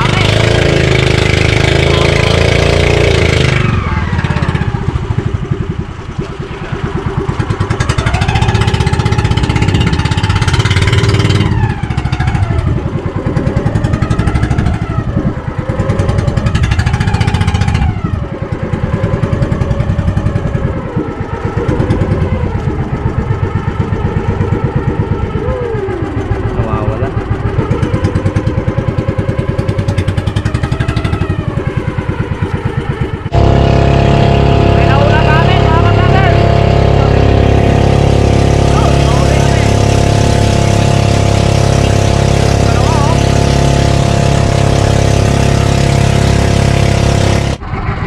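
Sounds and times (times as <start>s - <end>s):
boat engine running: 0.0s - 48.0s.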